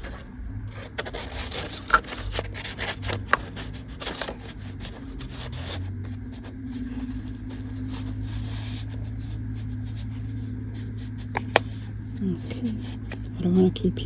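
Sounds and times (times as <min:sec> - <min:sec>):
paper pages rustling: 0:00.0 - 0:14.0.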